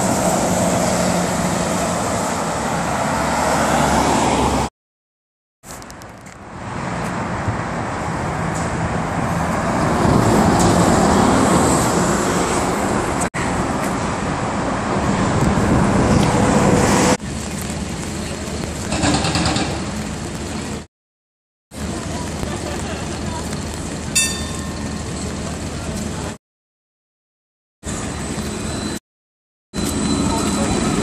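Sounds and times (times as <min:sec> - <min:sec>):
trolleybus tyre and road noise: 0:00.0 - 0:04.7, 0:05.6 - 0:20.9, 0:21.7 - 0:26.4, 0:27.8 - 0:29.0, 0:29.7 - 0:31.0.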